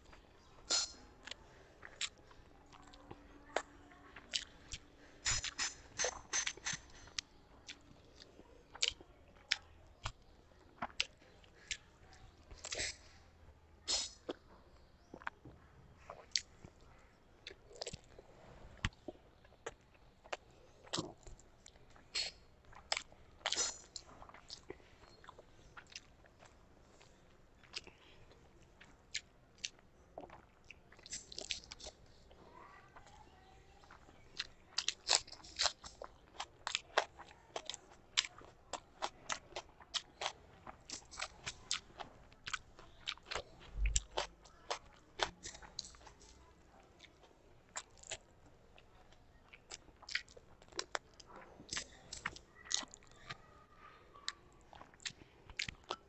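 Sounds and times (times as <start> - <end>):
person chewing food: 0.0 - 33.2, 33.8 - 53.5, 54.1 - 56.0.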